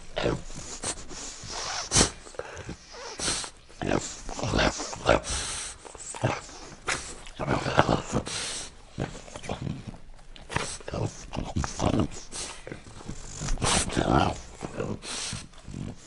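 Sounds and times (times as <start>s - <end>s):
dog noisy breathing: 0.0s - 16.0s
dog sniffing and grunting: 0.0s - 16.0s.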